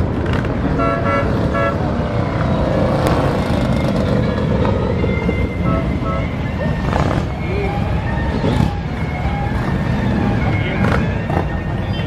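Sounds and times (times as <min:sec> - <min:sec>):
many motorcycle engines running: 0:00.0 - 0:12.0.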